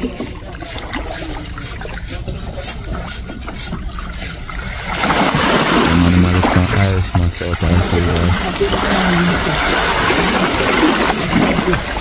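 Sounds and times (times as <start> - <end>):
seawater lapping in shallows: 0.0 - 12.0.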